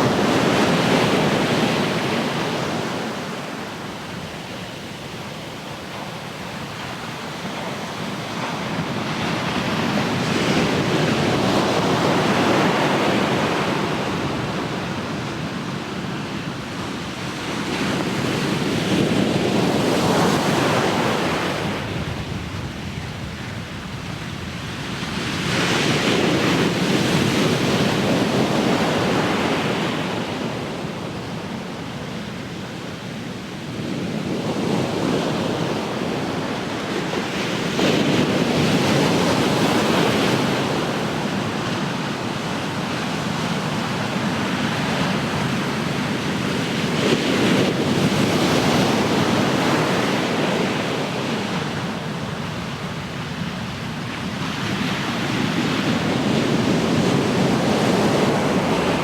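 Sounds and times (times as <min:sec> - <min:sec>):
ocean surf: 0:00.0 - 0:59.0.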